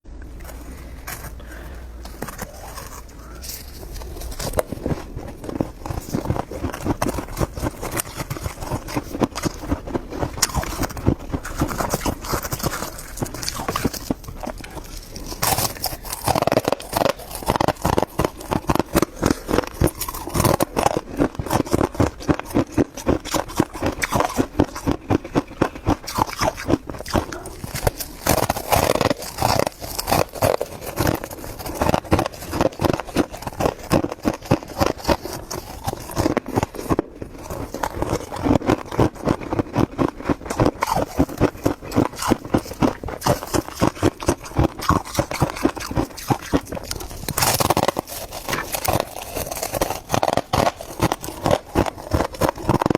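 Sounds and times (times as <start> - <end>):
frost being chewed: 0.1 - 52.9.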